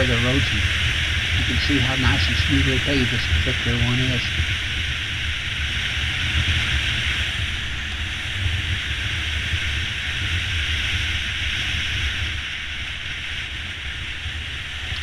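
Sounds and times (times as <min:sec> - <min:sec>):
wind hissing over microphone: 0:00.0 - 0:15.0.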